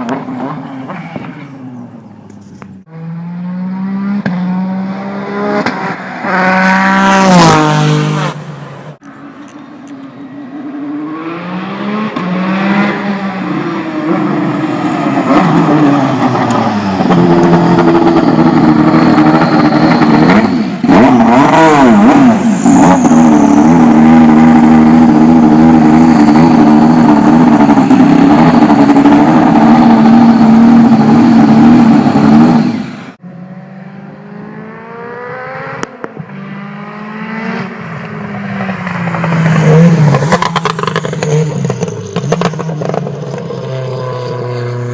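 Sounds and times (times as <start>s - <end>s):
race car accelerating: 2.8s - 9.0s, 10.1s - 44.9s.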